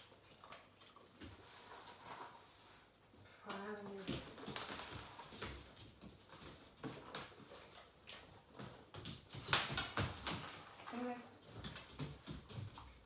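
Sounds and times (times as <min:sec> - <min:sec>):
dog paws tapping on wooden floor: 0:00.0 - 0:13.0.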